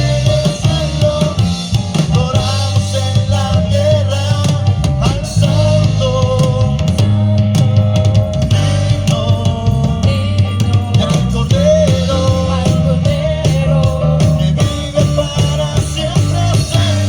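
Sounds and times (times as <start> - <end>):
drum kit beat: 0.0 - 17.0
held bass notes: 0.0 - 17.0
live band playing upbeat song: 0.0 - 17.0.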